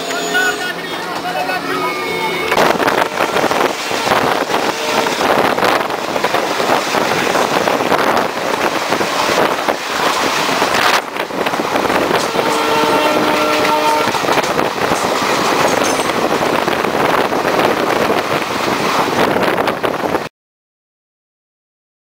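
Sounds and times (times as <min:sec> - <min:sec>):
passing train rushing by: 0:00.0 - 0:20.3
train wind and wheel clatter: 0:00.0 - 0:20.3.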